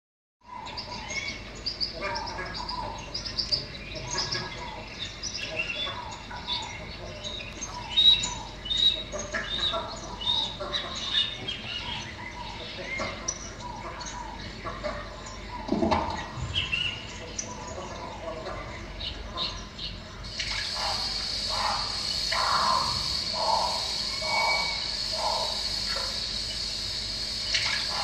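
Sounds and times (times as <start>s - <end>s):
birds chirping and calling: 0.4s - 28.0s.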